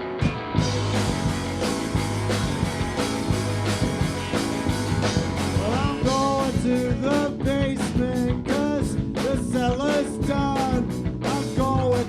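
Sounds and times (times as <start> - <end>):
bass guitar: 0.0 - 12.0
electric guitar: 0.0 - 12.0
drum beat: 0.3 - 12.0.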